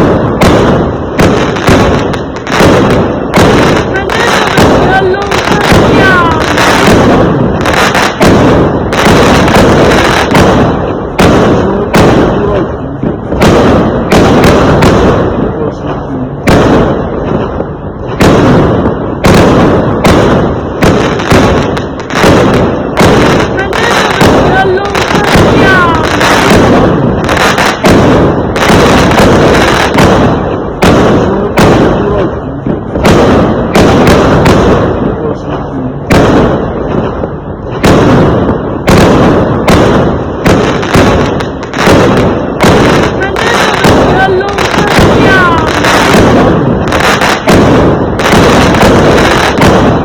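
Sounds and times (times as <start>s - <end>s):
fireworks exploding: 0.0s - 50.0s.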